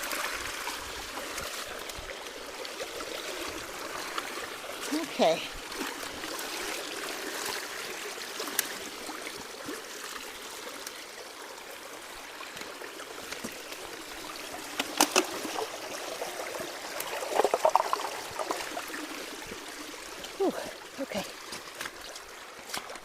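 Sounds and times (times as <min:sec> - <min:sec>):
water trickling through culvert: 0:00.0 - 0:23.0.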